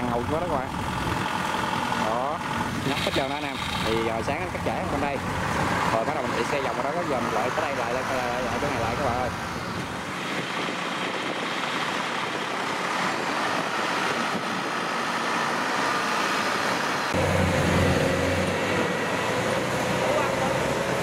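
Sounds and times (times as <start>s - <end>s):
combine harvester engine: 0.0s - 21.0s
tracked tractor engine running: 0.0s - 21.0s.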